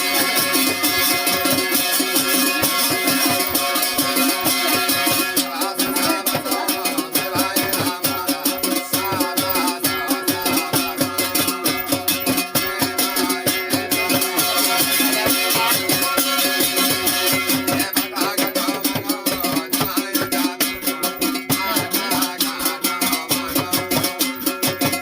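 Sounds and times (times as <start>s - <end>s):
folk music with fast beat: 0.0s - 25.0s.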